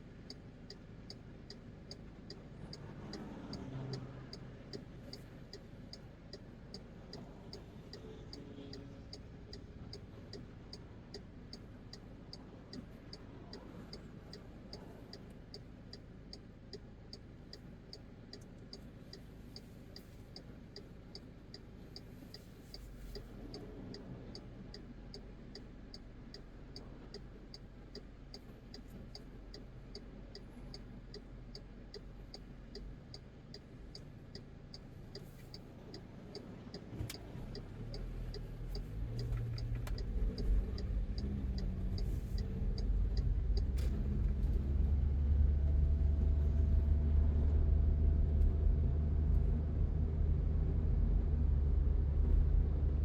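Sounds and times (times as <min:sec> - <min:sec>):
turn signal ticking: 0:00.0 - 0:44.4
car engine rumble: 0:00.0 - 0:53.0
road rumble: 0:00.0 - 0:53.0.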